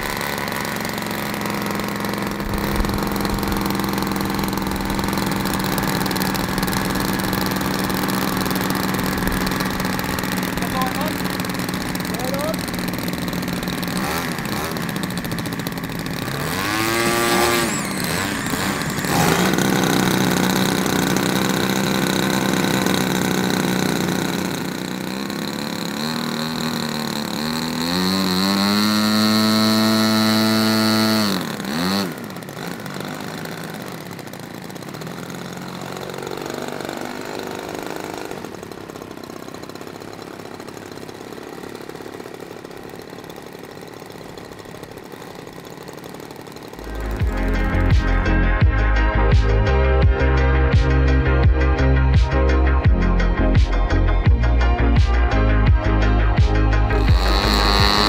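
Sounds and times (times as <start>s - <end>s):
model plane engine revving: 0.0s - 48.5s, 56.4s - 58.0s.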